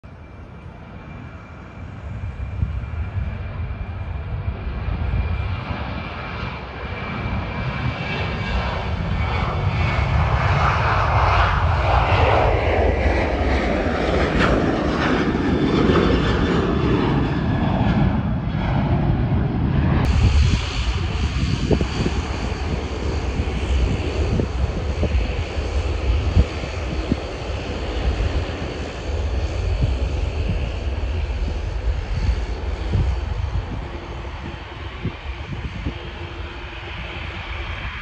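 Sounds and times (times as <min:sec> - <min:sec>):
jet engines roaring: 0:00.1 - 0:38.0.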